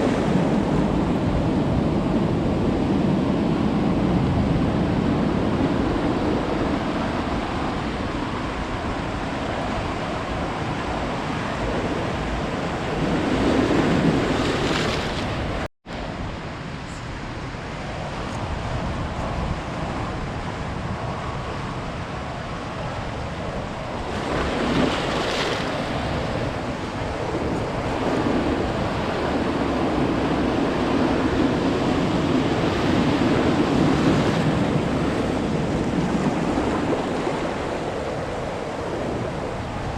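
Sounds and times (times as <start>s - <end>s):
ocean surf breaking: 0.0s - 16.2s, 17.5s - 39.9s.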